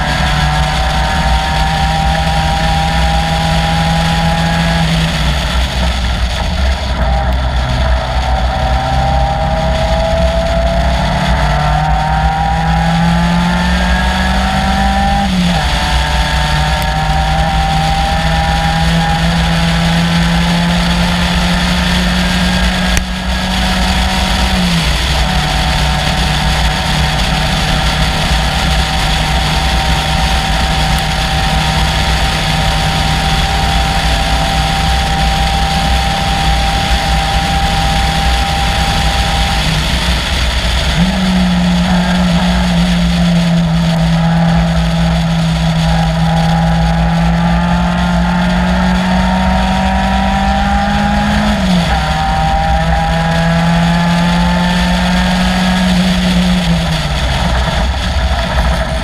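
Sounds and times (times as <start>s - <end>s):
race car engine at full throttle: 0.0s - 59.0s.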